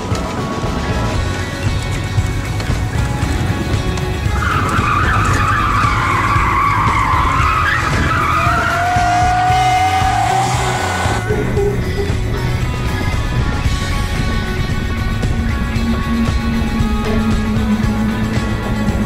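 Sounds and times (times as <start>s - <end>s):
rock music: 0.0s - 19.0s
car tyres squealing: 3.1s - 19.0s.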